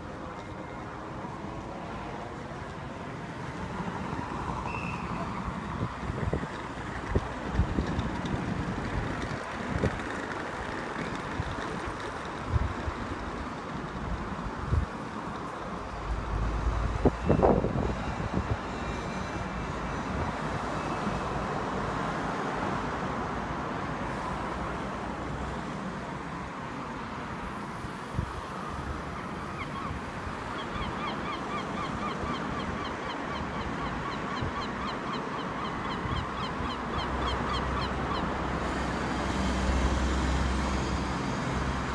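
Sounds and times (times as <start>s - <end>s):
road traffic noise: 0.0s - 41.9s.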